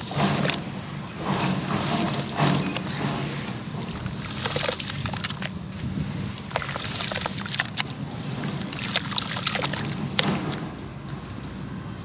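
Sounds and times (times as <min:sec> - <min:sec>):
hands squelching wet cement: 0:00.0 - 0:10.8.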